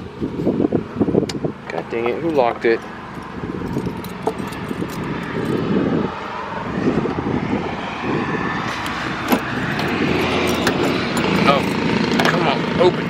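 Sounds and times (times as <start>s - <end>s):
passing vehicle rumble: 0.0s - 13.0s.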